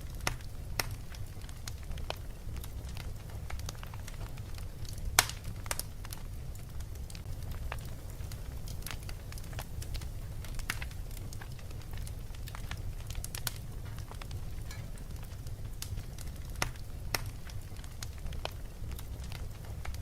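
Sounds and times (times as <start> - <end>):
wood fire crackling: 0.0 - 20.0
sharp pops and snaps: 0.2 - 20.0.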